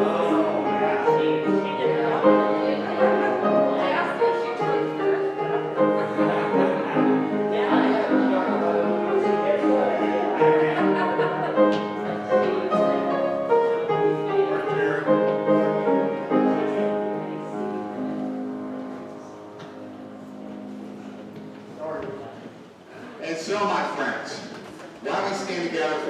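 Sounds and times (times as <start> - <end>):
piano music with sustained chords: 0.0 - 22.4.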